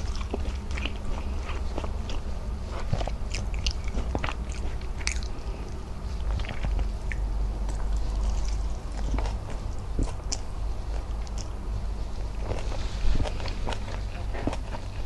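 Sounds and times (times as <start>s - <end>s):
close chewing: 0.0s - 15.0s.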